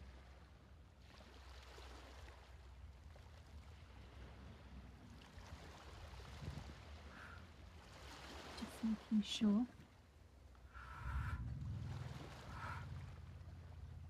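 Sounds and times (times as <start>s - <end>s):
ocean waves: 0.0s - 14.0s
low steady hum: 2.5s - 14.0s.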